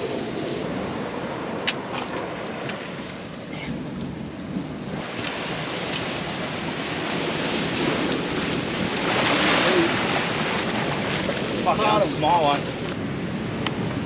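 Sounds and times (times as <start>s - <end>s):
surf washing over reef: 0.0s - 14.0s
wind buffeting microphone: 0.0s - 14.0s.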